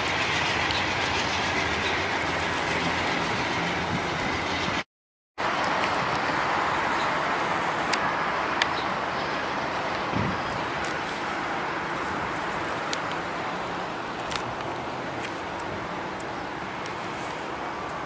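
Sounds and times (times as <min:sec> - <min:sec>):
train wheels rolling on rails: 0:00.0 - 0:04.8, 0:05.4 - 0:18.0.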